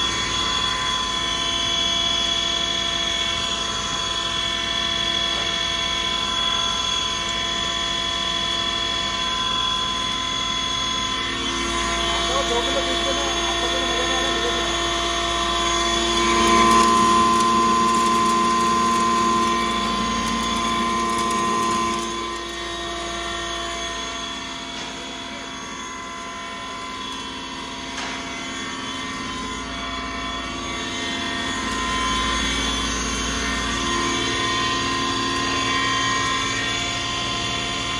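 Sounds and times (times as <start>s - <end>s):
grinder and blower fan whining: 0.0s - 37.9s.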